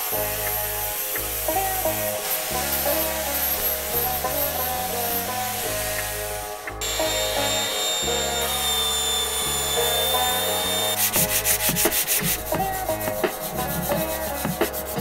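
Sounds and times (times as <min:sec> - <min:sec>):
background music: 0:00.0 - 0:15.0
steel scraping on sandpaper and file: 0:00.5 - 0:15.0.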